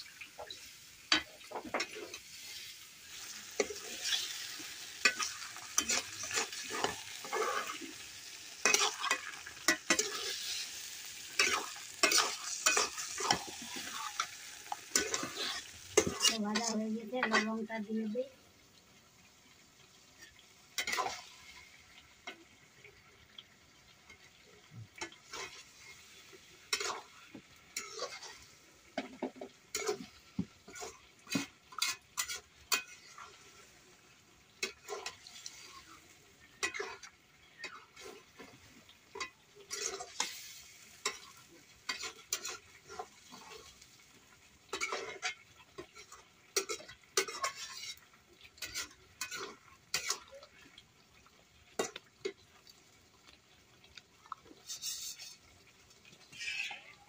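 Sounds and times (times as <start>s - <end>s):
light sizzling: 0.0s - 57.0s
metal spatula scraping a pan: 0.2s - 17.7s, 20.2s - 22.4s, 25.0s - 50.4s, 51.8s - 52.4s, 54.4s - 57.0s.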